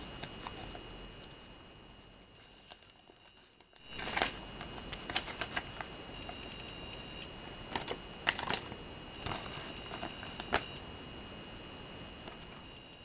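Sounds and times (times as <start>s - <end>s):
paper crinkling: 0.0s - 10.8s.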